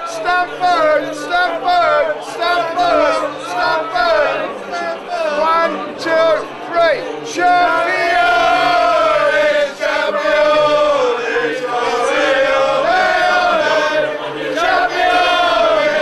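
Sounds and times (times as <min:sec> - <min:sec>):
crowd of men chanting: 0:00.0 - 0:16.0.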